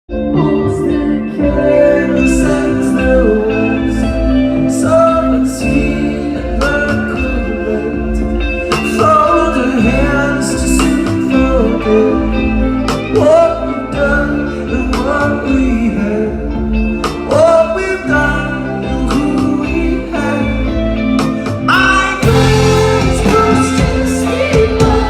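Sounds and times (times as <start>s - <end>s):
live rock band playing: 0.1s - 25.0s
person singing: 0.1s - 25.0s.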